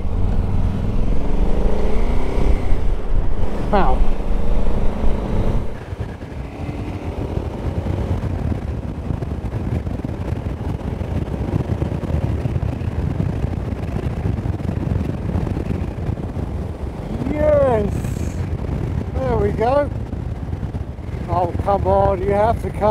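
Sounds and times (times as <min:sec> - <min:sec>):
motorcycle engine running: 0:00.0 - 0:22.9
wind and road noise: 0:00.0 - 0:22.9.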